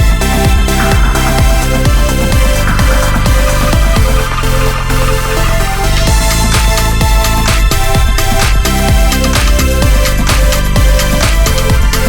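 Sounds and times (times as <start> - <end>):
kick drum beat: 0.0 - 4.9, 5.7 - 12.0
sustained synth notes: 0.0 - 12.0.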